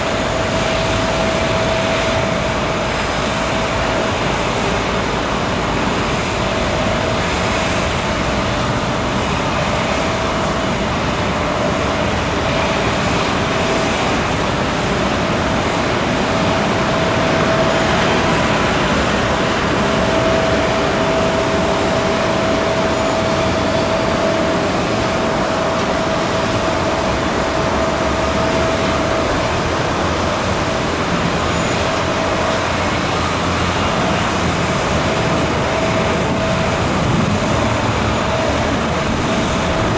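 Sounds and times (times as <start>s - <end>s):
jet airliner engine whine: 0.0s - 39.9s.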